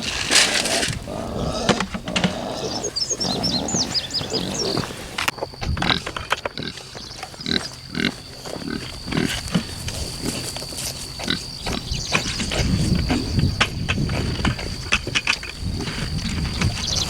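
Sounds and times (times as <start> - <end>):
pigs grunting: 0.0 - 10.6, 11.2 - 14.7.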